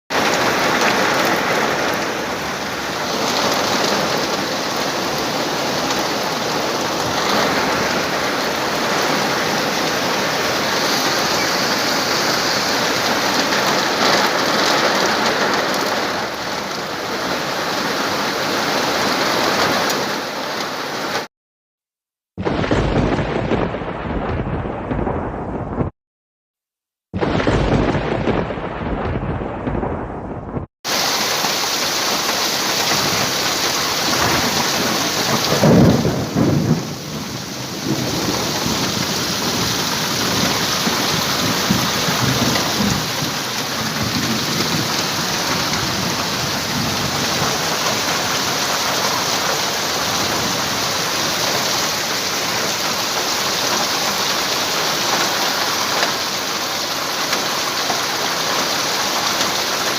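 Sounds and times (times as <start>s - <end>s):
thunder rumbling: 0.1s - 19.8s, 22.4s - 25.9s, 27.2s - 58.7s
heavy rain pouring: 0.1s - 21.3s, 27.2s - 59.9s.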